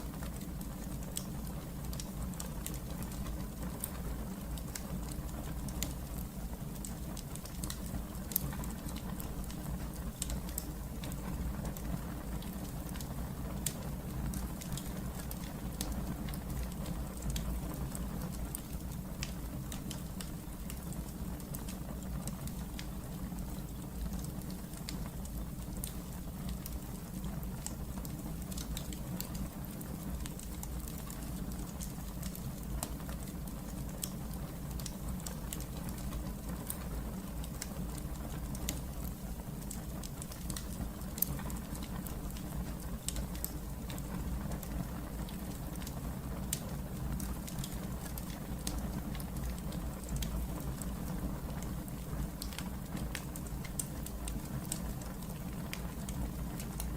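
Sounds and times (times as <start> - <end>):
fire crackling: 0.0 - 56.9
wood fire rumbling: 0.0 - 56.9.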